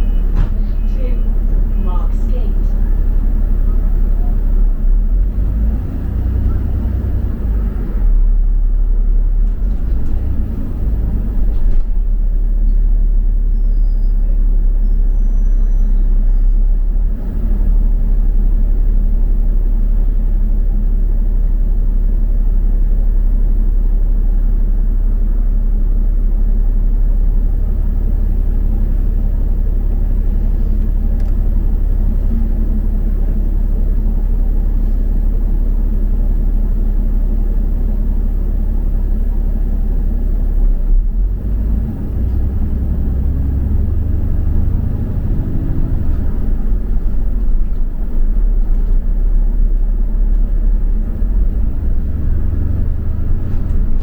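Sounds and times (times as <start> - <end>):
bus engine rumble: 0.0 - 54.0
road noise: 0.0 - 54.0.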